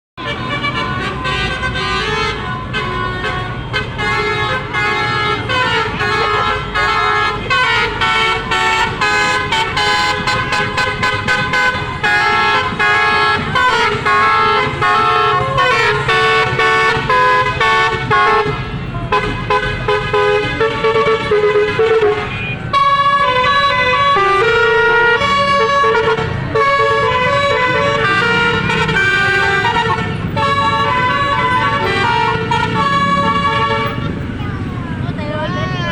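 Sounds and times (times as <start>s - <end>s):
multi-tone bus air horn tune: 0.2s - 34.7s.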